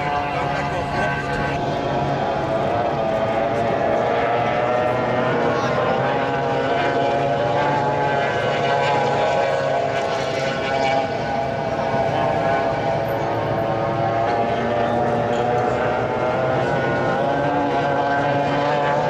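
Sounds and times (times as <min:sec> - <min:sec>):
outboard engine high-revving whine: 0:00.0 - 0:19.0.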